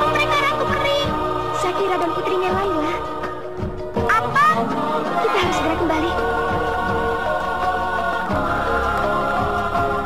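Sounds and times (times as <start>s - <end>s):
sustained background music tones: 0.0s - 10.0s.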